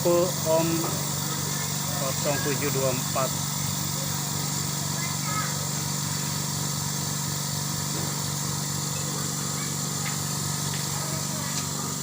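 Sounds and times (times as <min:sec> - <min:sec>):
compressor running: 0:00.0 - 0:12.0.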